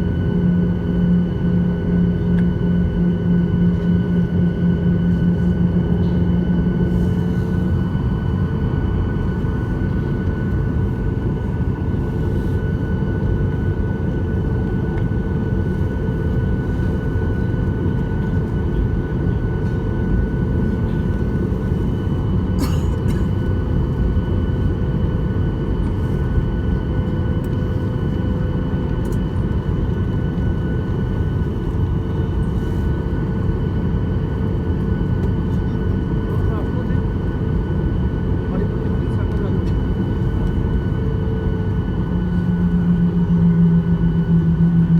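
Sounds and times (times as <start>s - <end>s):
aircraft cabin engine rumble: 0.0s - 44.9s
steady engine whine: 0.0s - 44.9s.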